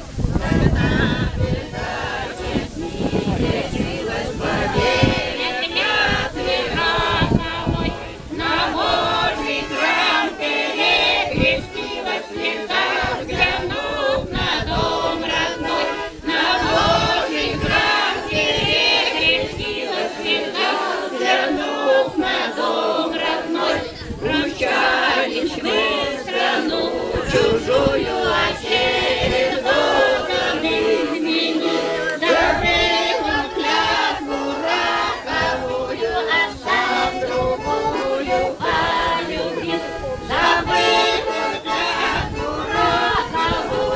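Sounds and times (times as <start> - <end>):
group singing folk song: 0.0 - 43.9
button accordion: 0.4 - 43.9.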